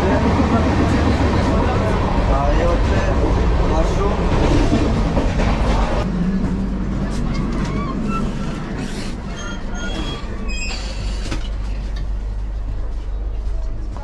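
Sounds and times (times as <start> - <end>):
low rumble of train: 0.0 - 14.0.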